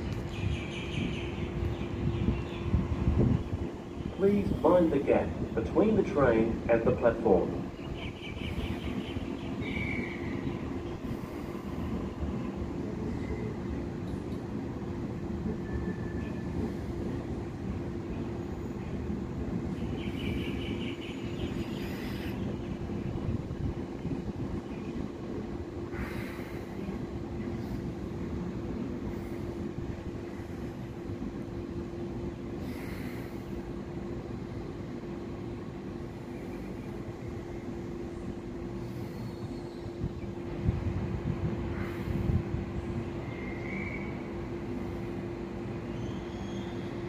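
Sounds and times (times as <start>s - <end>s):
train humming and rumbling: 0.0s - 47.0s.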